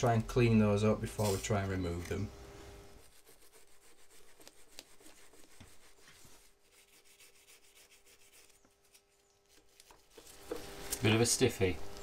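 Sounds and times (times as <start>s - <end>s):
faint scratchy rubbing: 1.0s - 11.3s.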